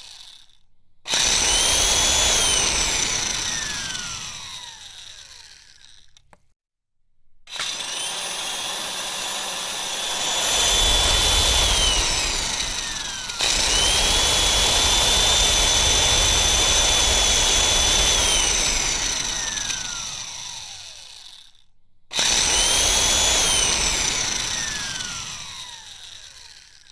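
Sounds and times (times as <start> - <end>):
electric mixer motor whine: 0.0 - 6.2, 7.5 - 26.9.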